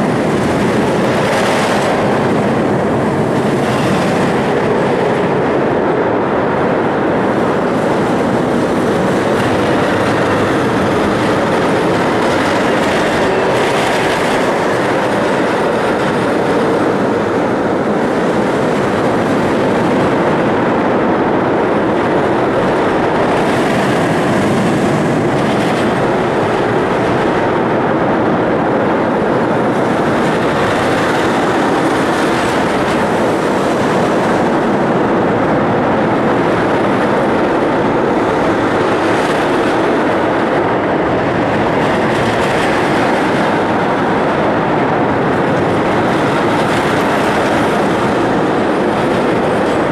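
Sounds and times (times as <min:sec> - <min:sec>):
rides running on steel track: 0:00.0 - 0:49.9
rumbling din of amusement hall: 0:00.0 - 0:49.9.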